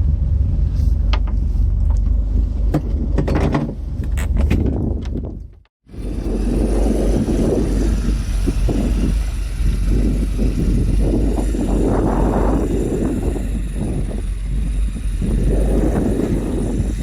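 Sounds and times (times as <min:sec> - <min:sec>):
boat engine rumbling: 0:00.0 - 0:17.0
wind on microphone: 0:00.0 - 0:17.0.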